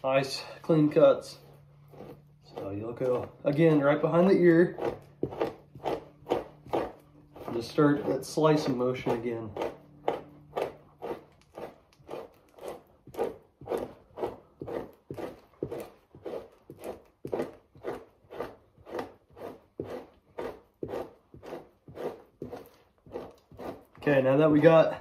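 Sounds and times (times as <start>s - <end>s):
knife scraping hide: 0.2s - 25.0s.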